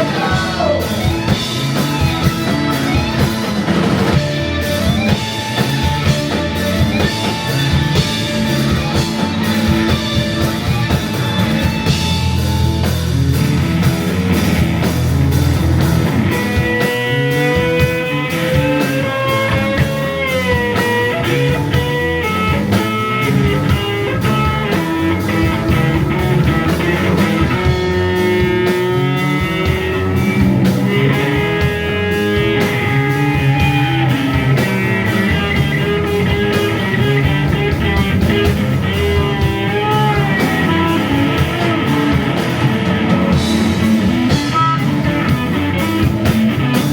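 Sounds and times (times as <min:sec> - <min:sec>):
psychedelic rock band playing: 0:00.0 - 0:46.9.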